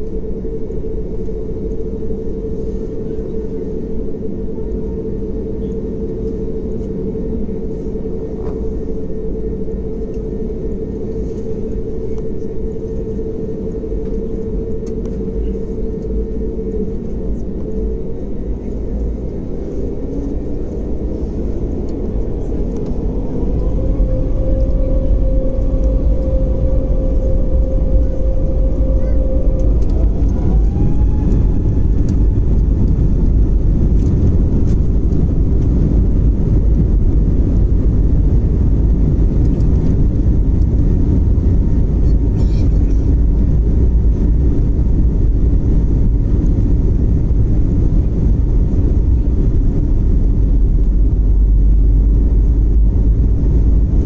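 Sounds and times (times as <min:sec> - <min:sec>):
humming tone gliding up: 0:00.0 - 0:54.0
jet engines roaring at takeoff: 0:00.0 - 0:54.0.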